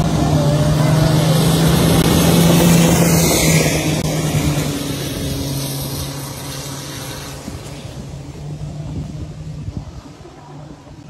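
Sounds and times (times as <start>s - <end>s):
racing boat engine running: 0.0s - 11.0s
water spray rushing: 0.0s - 11.0s.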